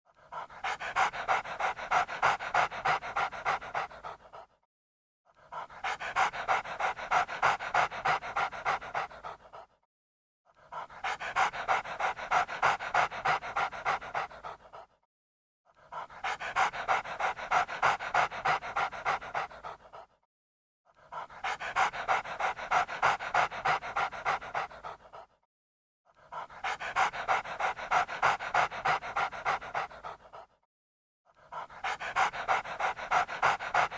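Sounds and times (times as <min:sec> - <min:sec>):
dog panting fast: 0:00.1 - 0:04.6, 0:05.4 - 0:09.8, 0:10.6 - 0:15.0, 0:15.8 - 0:20.2, 0:21.0 - 0:25.4, 0:26.2 - 0:30.6, 0:31.4 - 0:33.9.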